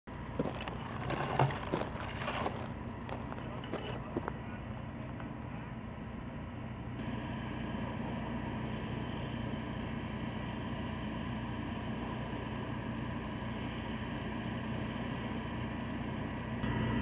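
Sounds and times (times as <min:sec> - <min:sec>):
fire engine idling: 0:00.1 - 0:17.0.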